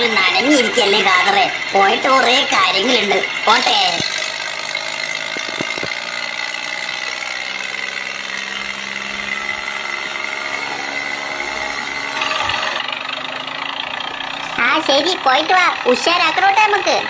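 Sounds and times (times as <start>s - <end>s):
toy tractor motor whining: 0.0s - 17.0s.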